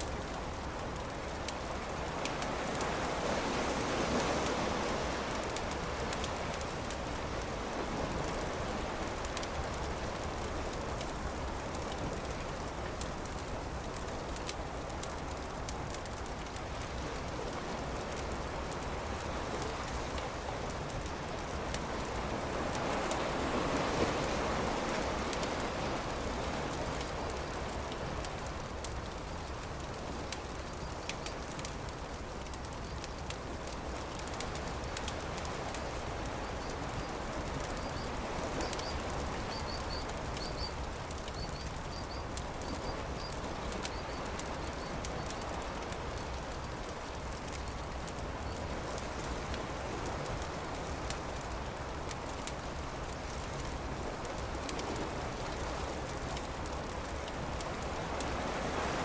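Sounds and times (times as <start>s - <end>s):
waves washing: 0.0s - 13.9s, 17.3s - 32.4s, 33.2s - 59.0s
campfire crackling: 0.0s - 59.0s.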